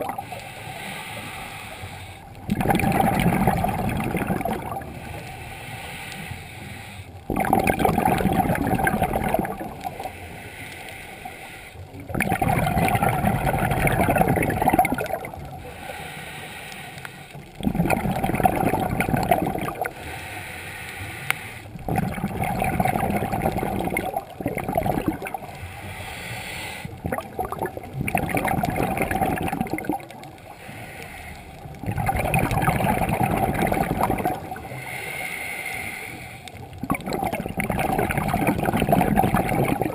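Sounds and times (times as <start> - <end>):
bubbling exhaled air underwater: 0.0 - 5.4, 7.2 - 10.2, 11.2 - 16.0, 17.3 - 20.2, 21.7 - 26.1, 26.8 - 34.9, 36.1 - 39.9.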